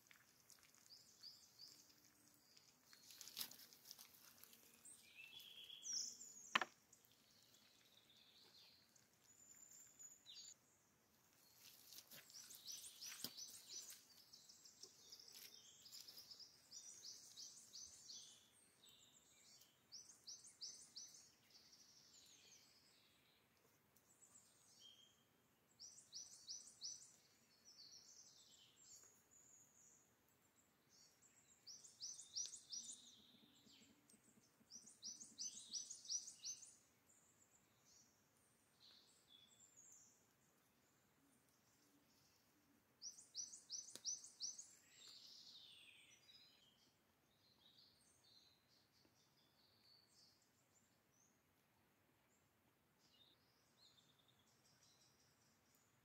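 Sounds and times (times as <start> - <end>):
bird chirping: 0.0 - 51.4, 52.2 - 56.0.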